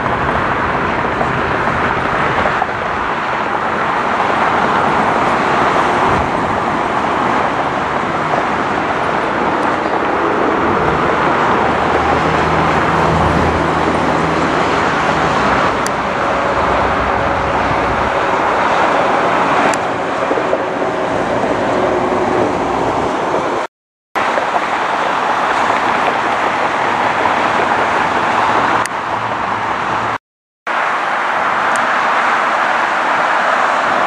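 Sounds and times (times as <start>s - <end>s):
jet airliner roar: 0.0s - 34.0s.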